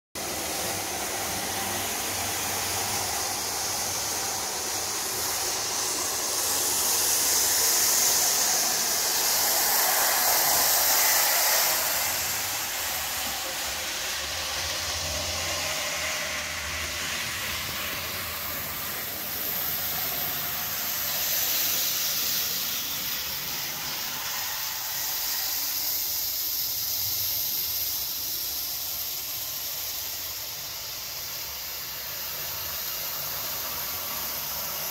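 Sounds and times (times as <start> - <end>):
model train whirring on track: 0.2 - 34.9.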